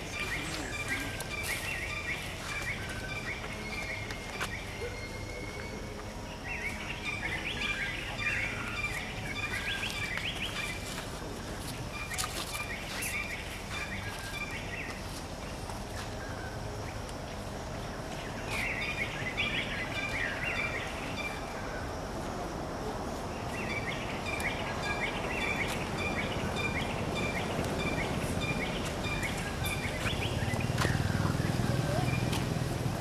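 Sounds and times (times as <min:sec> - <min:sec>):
birds chirping: 0:00.0 - 0:22.0, 0:23.2 - 0:33.0
outdoor background noise: 0:00.0 - 0:33.0.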